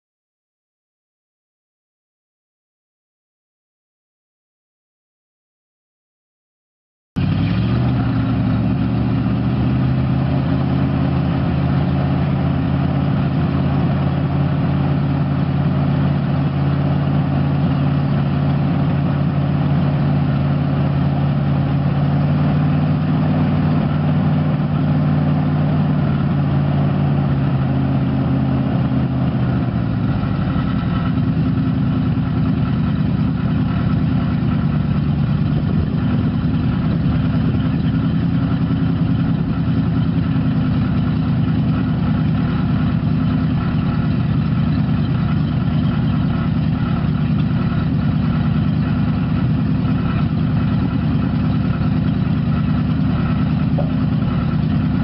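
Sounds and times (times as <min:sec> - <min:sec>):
truck engine idling: 0:07.2 - 0:55.0.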